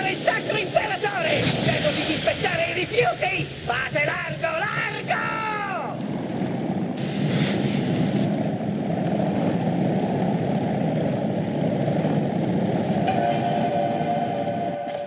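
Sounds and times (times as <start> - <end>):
heavy low rumble: 0.0 - 15.0.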